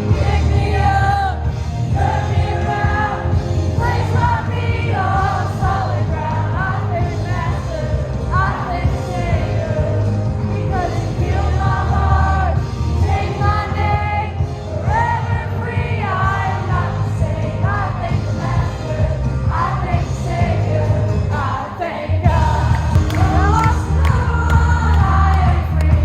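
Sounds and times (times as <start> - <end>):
pop music with singing: 0.0 - 26.0
steady bass line: 0.0 - 26.0.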